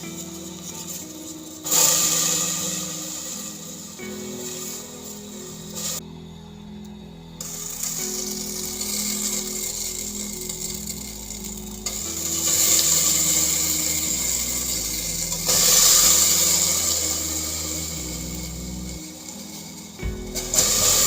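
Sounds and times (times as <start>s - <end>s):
slow background music: 0.0s - 21.0s
steady rushing hiss: 0.0s - 21.0s.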